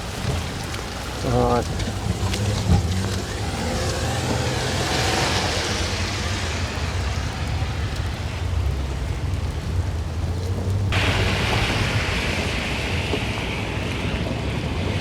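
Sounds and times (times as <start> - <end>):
car engine rumble: 0.0 - 15.0
rain and wet road hiss: 0.0 - 15.0.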